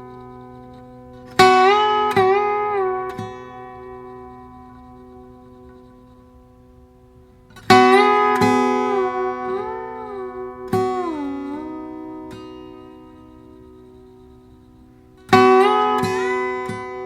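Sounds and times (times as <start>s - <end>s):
slide guitar notes: 0.0s - 17.0s.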